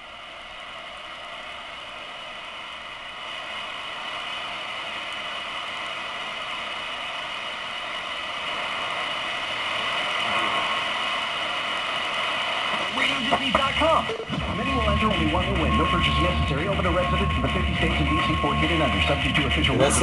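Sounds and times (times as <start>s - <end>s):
radio static hiss: 0.0s - 20.0s
radio tuning between stations: 3.7s - 20.0s.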